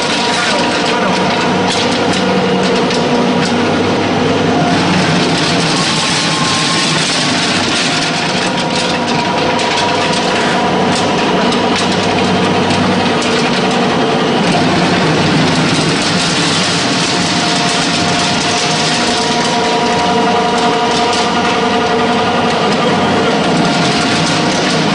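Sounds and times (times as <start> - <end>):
pellet mill machine hum: 0.0 - 24.9.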